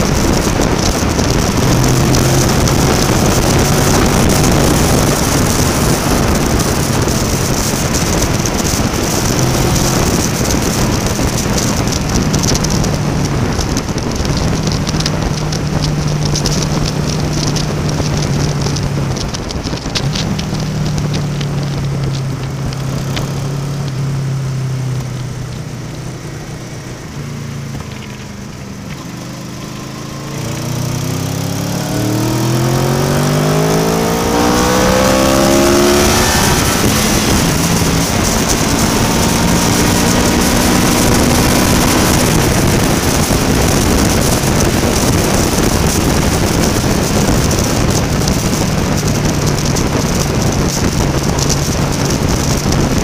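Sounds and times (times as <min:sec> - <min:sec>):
motorcycle engine cruising: 0:00.0 - 0:53.0
road noise: 0:00.0 - 0:53.0
wind rush: 0:00.0 - 0:53.0.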